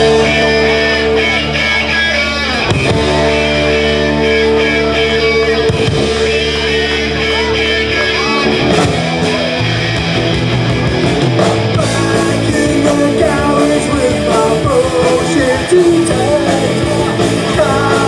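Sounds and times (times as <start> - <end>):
bass: 0.0 - 18.0
drums: 0.0 - 18.0
electric guitar chords: 0.0 - 18.0.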